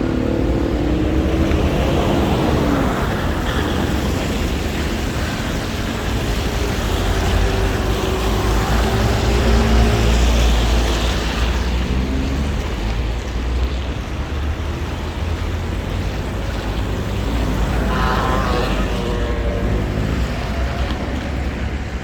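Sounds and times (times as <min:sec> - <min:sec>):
vehicle engines passing: 0:00.0 - 0:22.0.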